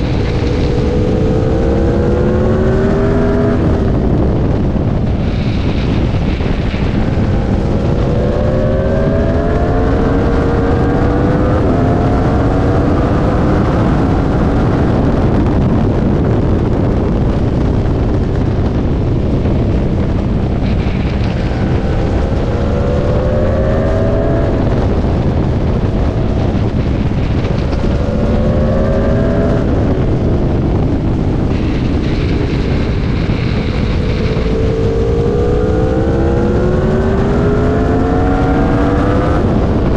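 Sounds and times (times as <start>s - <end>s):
motorcycle engine revving through gears: 0.0s - 39.9s
wind rush on microphone: 0.0s - 39.9s.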